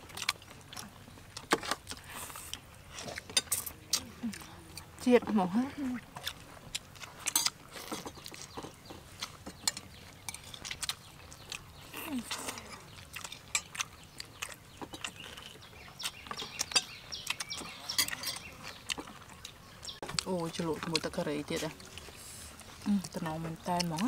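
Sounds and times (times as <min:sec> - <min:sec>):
people chewing and biting: 0:00.0 - 0:24.0.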